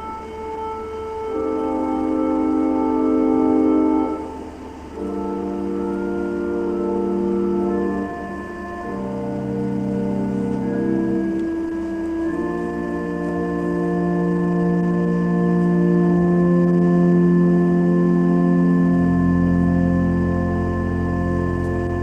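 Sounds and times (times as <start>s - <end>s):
deep organ bass note: 0.0s - 22.0s
organ playing sustained chords: 0.0s - 22.0s.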